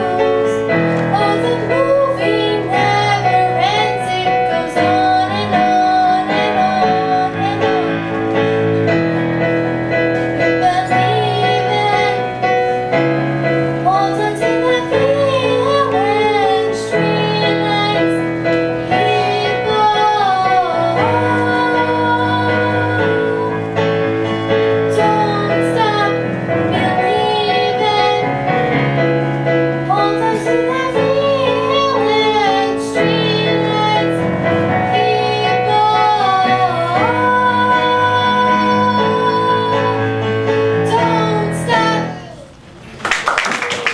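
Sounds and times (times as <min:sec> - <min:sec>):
woman singing with vibrato: 0:00.0 - 0:09.0, 0:09.8 - 0:42.6
sustained piano chords: 0:00.0 - 0:42.6.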